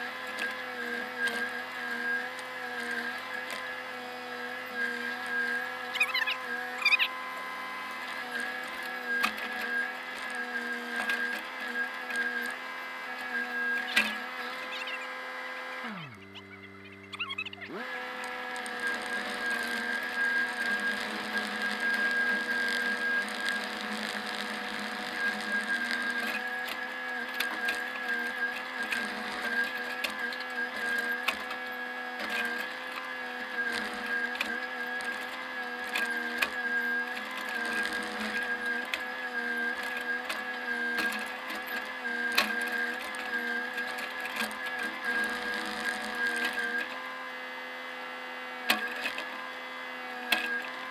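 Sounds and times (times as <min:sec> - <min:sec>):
hydraulic whine: 0:00.0 - 0:50.9.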